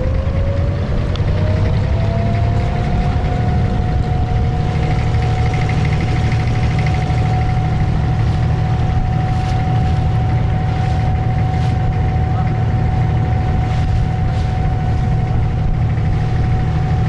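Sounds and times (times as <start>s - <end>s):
boat diesel engine running: 0.0s - 17.0s
constant engine whine: 0.0s - 17.0s.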